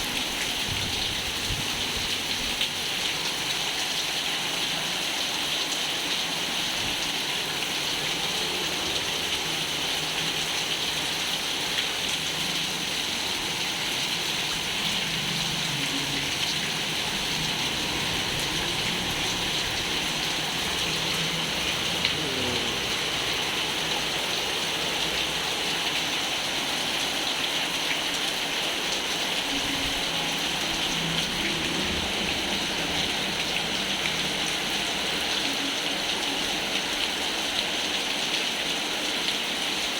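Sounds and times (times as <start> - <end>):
rain falling on pond water: 0.0 - 39.9.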